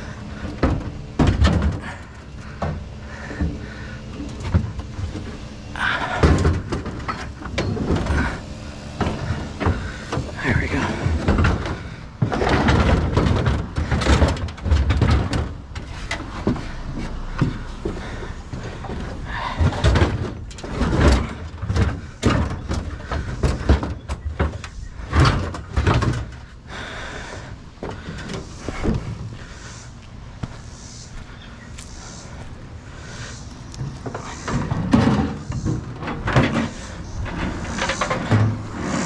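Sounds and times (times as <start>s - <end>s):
metal scrap clanking and scraping: 0.0s - 26.5s, 33.8s - 39.0s.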